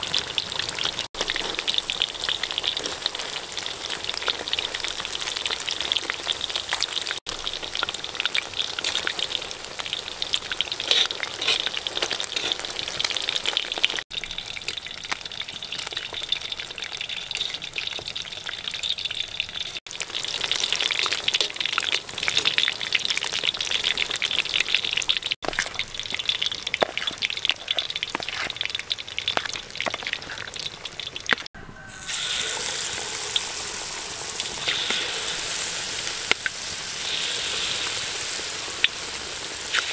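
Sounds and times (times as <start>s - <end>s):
ribs deep-frying in oil: 0.0s - 39.9s.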